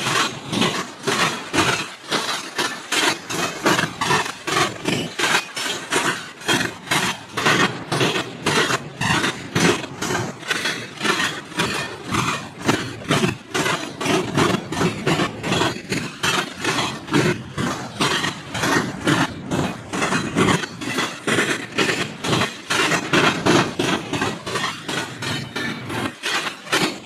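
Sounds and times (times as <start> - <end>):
train wheels clattering over rail joints: 0.0 - 27.0.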